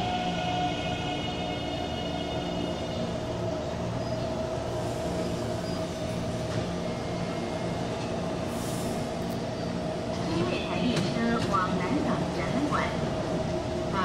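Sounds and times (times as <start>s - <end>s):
train hum pulling in: 0.0s - 14.0s.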